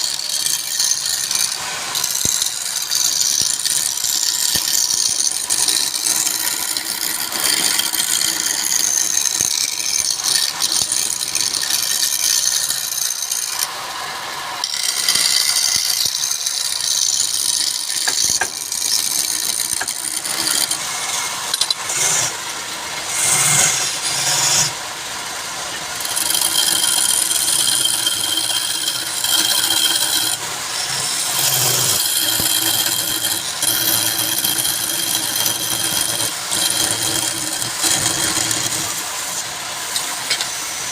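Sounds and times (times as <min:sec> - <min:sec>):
wood lathe tool scraping: 0:00.0 - 0:24.8, 0:25.4 - 0:40.9.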